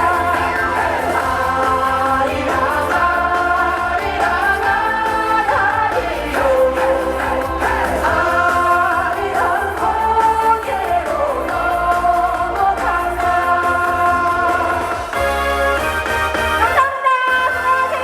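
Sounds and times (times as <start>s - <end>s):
backing track with bass line: 0.0s - 18.0s.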